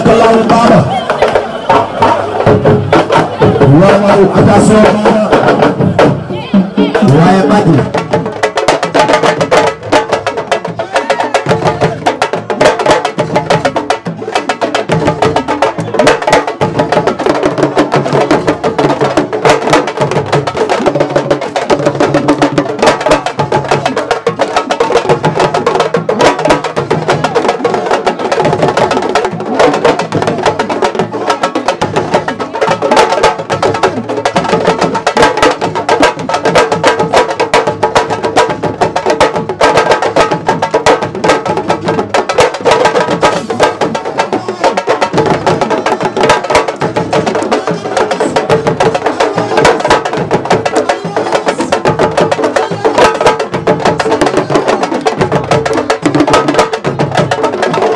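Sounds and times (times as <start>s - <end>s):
fast hand drumming: 0.0s - 57.9s.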